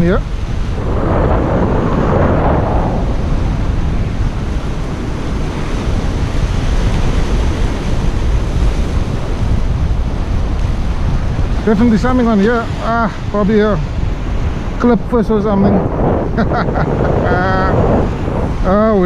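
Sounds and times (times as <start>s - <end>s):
surf washing on shore: 0.0s - 19.0s
wind buffeting microphone: 0.0s - 19.0s.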